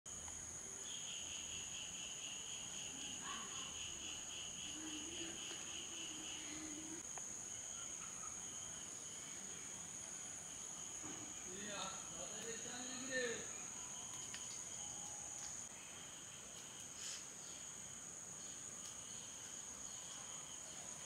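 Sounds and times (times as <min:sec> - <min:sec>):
pulsing insect trill: 0:00.1 - 0:21.0.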